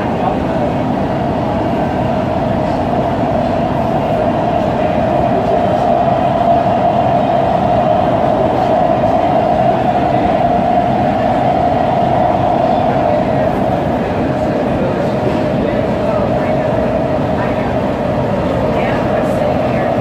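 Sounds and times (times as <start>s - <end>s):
subway car rumbling in tunnel: 0.0s - 20.0s.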